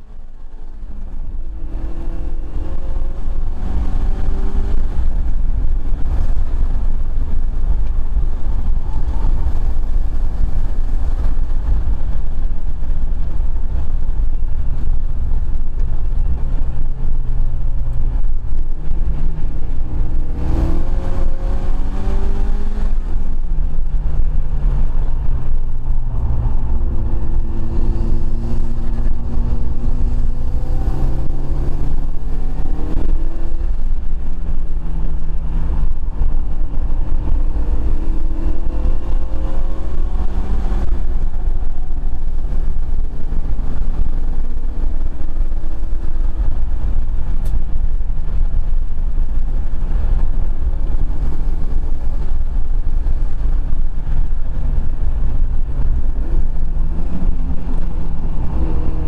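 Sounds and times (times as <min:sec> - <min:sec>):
car engine revving: 0:00.0 - 0:59.0
heavy low rumble: 0:00.0 - 0:59.0.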